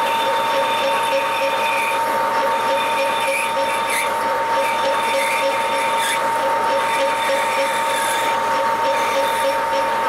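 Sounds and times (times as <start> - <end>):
metal lathe gear whine: 0.0 - 10.0.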